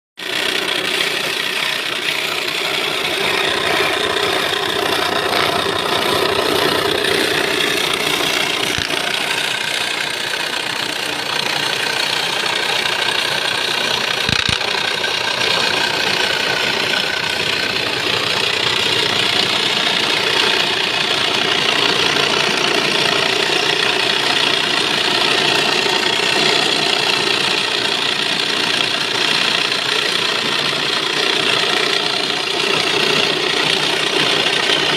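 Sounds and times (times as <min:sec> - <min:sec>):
jigsaw cutting wood: 0:00.2 - 0:34.9.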